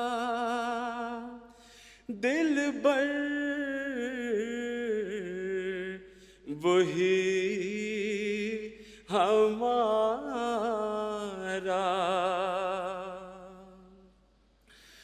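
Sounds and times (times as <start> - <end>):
man singing unaccompanied: 0.0 - 1.5, 2.1 - 14.0.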